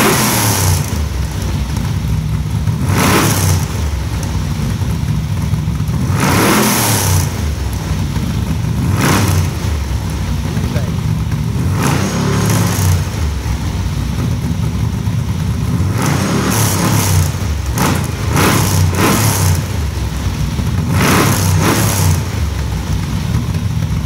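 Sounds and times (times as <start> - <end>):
buggy engine idling and revving: 0.0 - 24.0.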